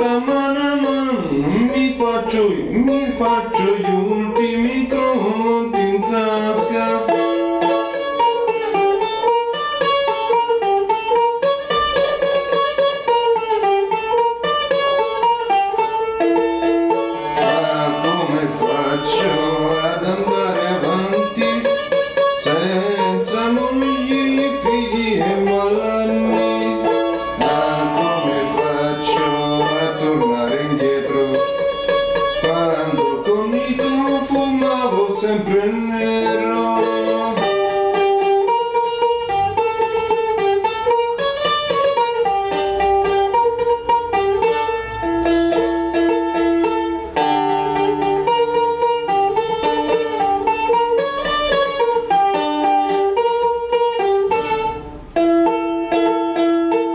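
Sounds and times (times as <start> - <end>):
bouzouki tremolo melody: 0.0 - 56.9.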